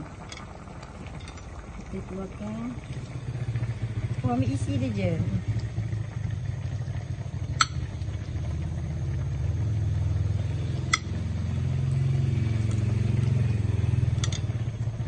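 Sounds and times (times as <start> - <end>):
engine idling rumble: 0.0 - 15.0.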